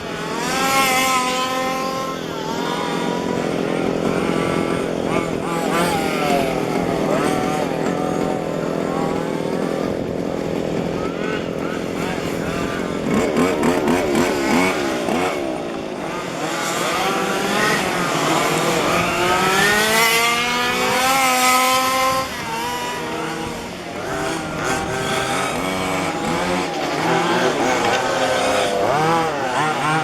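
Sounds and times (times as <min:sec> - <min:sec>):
rc car engines racing: 0:00.0 - 0:30.0.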